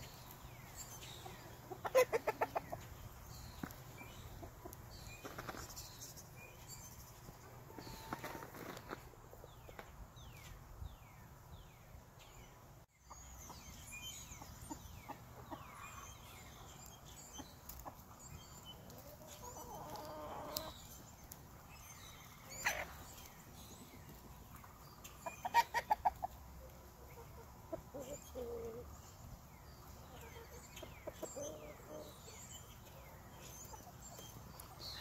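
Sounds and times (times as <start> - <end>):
chickens clucking: 0.0 - 10.6, 13.1 - 21.6, 22.2 - 35.0.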